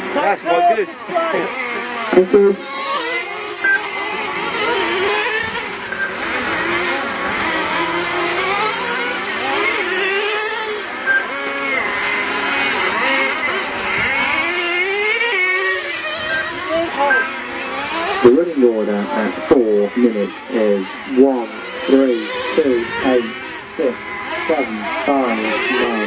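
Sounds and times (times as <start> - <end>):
rc car engines whining: 0.0 - 26.0.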